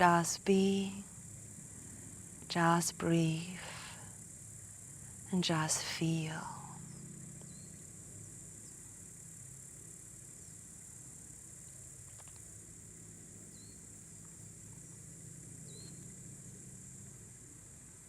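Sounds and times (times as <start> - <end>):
crickets trilling: 0.0 - 18.0
faint low hum: 0.0 - 18.0.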